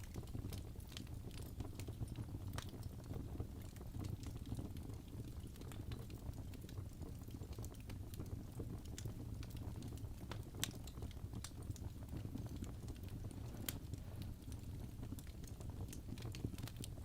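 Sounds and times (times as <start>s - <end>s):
fire crackling: 0.0s - 17.0s
low rumble of flames: 0.0s - 17.0s.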